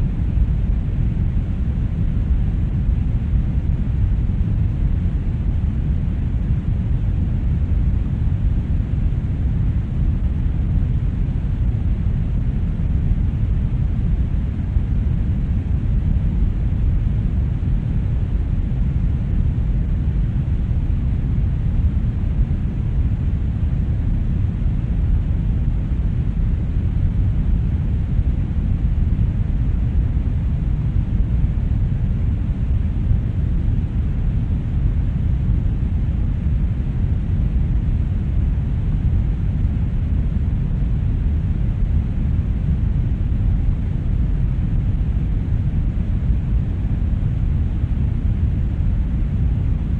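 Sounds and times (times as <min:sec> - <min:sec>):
deep rushing brown noise: 0:00.0 - 0:49.9.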